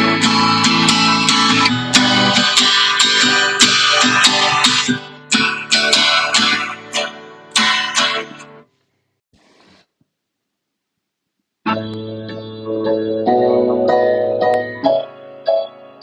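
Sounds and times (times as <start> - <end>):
guitar strumming: 0.0 - 8.6, 11.7 - 16.0.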